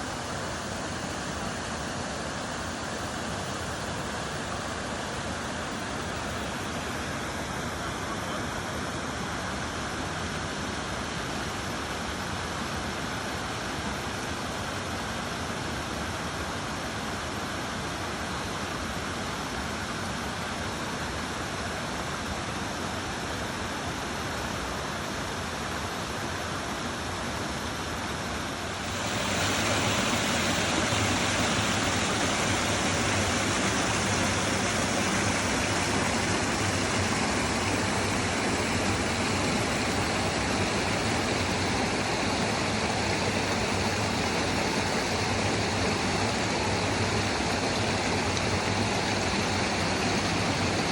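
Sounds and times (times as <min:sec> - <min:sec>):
rushing stream water: 0:00.0 - 0:50.9.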